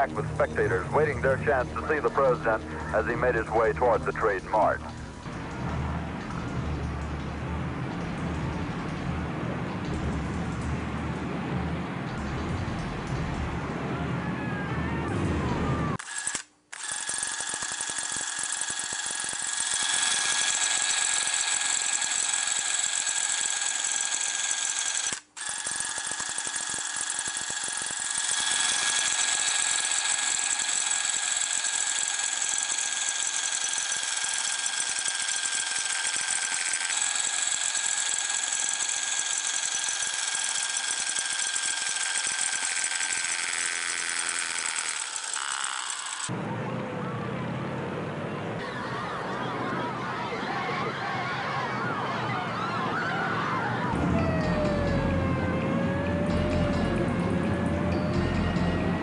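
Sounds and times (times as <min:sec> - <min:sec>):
thin whine: 0:00.0 - 0:47.4.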